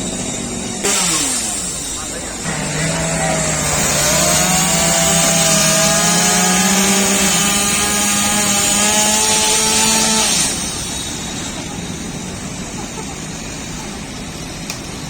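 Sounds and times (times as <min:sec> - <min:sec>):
chainsaw cutting wood: 0:00.0 - 0:12.2.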